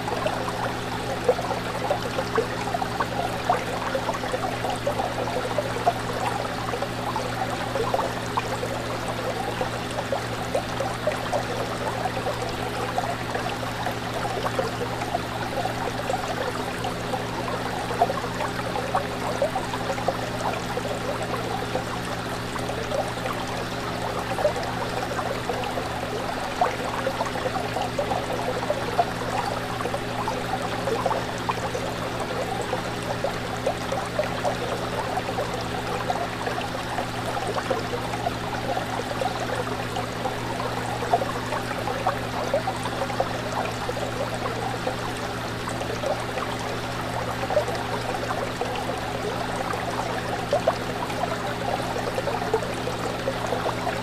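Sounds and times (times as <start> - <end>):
fish tank water bubbling: 0.0 - 54.0.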